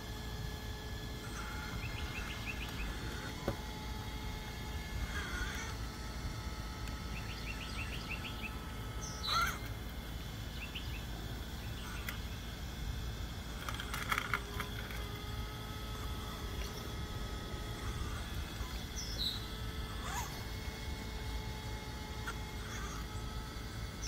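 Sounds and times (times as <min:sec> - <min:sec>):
faint motor whine: 0:00.0 - 0:24.0
birds chirping: 0:01.0 - 0:24.0.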